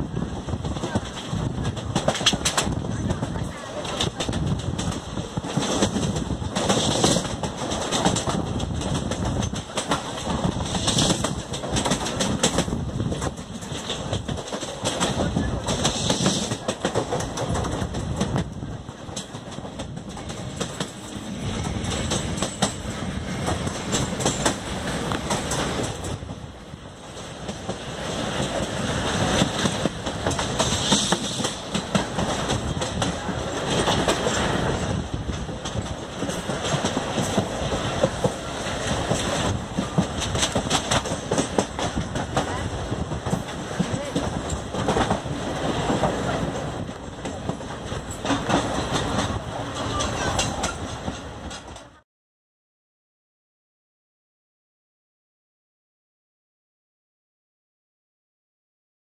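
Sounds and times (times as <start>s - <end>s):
train coach rumble: 0.0s - 52.0s
train wheels clattering on rails: 0.0s - 52.0s.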